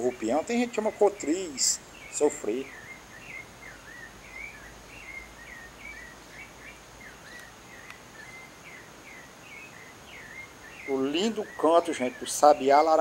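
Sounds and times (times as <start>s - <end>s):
thrush singing whistled notes: 0.0s - 13.0s.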